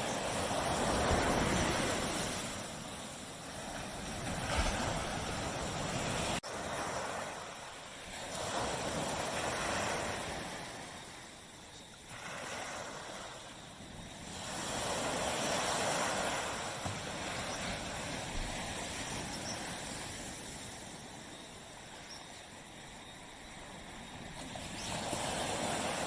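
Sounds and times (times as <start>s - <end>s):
small waves breaking on beach: 0.0s - 26.0s.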